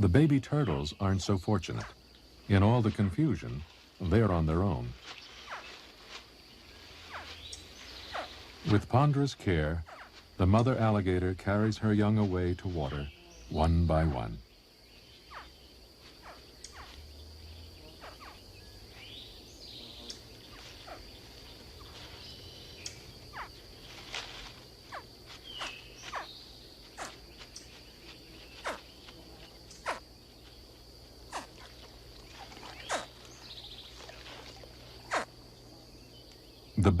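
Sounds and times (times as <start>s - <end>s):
wildlife chirps and clicks: 0.0s - 37.0s.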